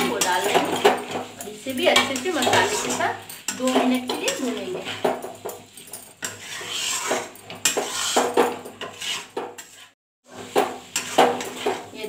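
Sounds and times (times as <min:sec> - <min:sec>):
spatula scraping metal pan: 0:00.0 - 0:12.0.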